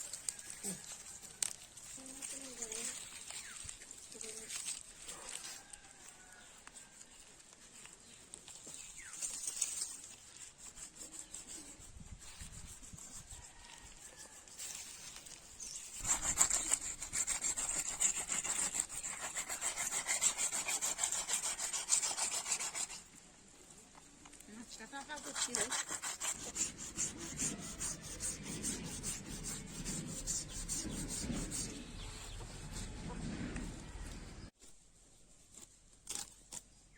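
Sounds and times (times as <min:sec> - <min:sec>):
rapid scraping strokes: 0:00.0 - 0:23.2, 0:24.5 - 0:36.7.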